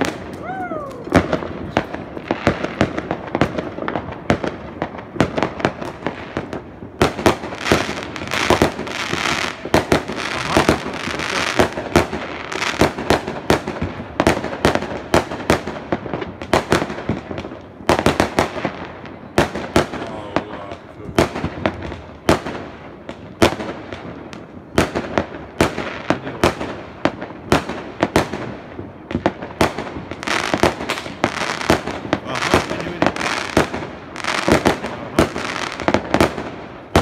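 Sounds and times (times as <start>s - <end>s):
fireworks banging: 0.0s - 37.0s.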